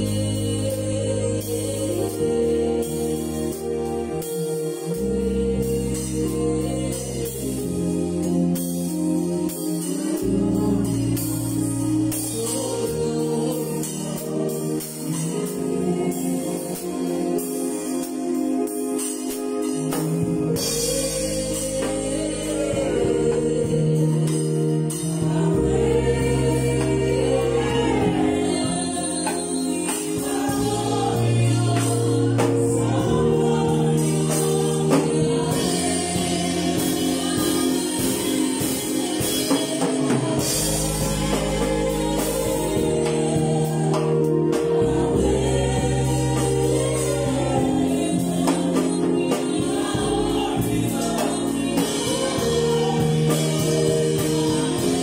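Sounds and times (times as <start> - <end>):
drum kit and cymbals: 0.0 - 55.0
keyboard chords: 0.0 - 55.0
people singing: 0.0 - 55.0.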